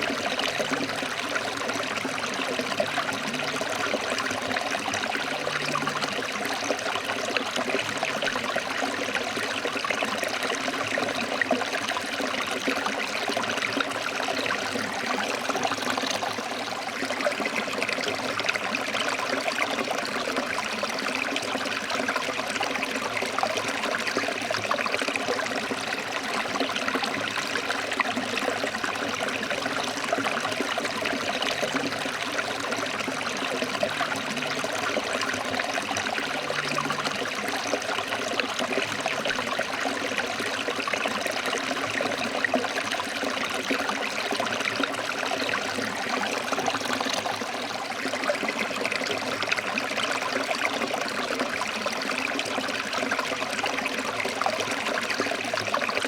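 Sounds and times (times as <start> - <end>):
stream splashing over rocks: 0.0 - 56.0.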